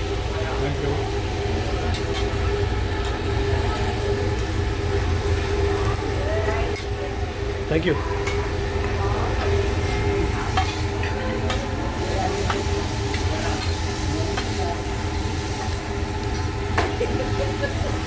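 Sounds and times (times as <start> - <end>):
restaurant rumble and hiss: 0.0 - 18.0
utensils clinking: 0.3 - 7.1, 7.7 - 18.0.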